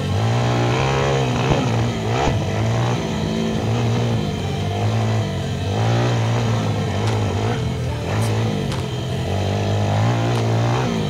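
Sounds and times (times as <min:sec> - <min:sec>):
pit bike engine revving: 0:00.0 - 0:11.0.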